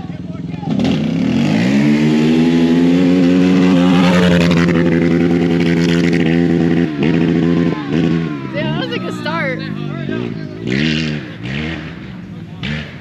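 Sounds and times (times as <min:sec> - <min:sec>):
race vehicle engine revving high: 0:00.0 - 0:13.0.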